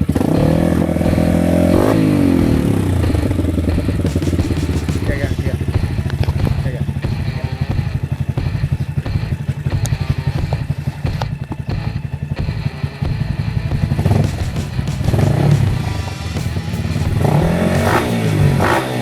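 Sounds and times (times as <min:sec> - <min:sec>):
engine revving: 0:00.0 - 0:19.0
motorcycle engine idling: 0:00.0 - 0:19.0.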